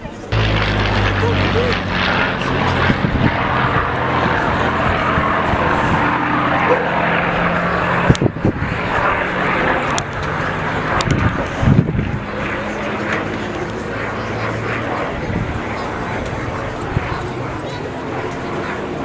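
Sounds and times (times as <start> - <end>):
aircraft engine running: 0.2 - 19.0.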